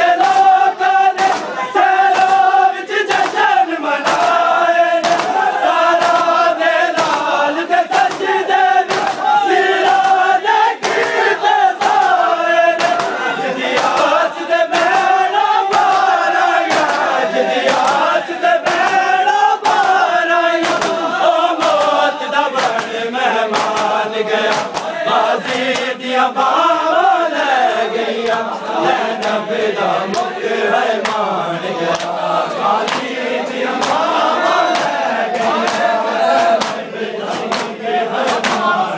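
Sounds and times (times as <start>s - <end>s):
hands slapping chests: 0.0s - 27.6s, 28.2s - 30.4s, 31.0s - 38.9s
men chanting in unison: 0.0s - 38.9s.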